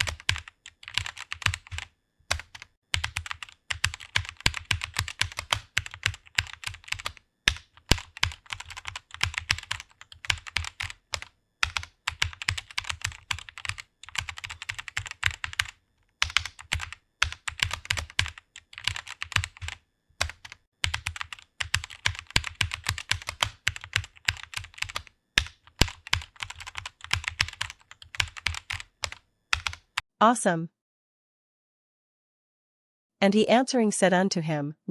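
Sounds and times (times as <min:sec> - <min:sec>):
fast keyboard typing: 0:00.0 - 0:30.0.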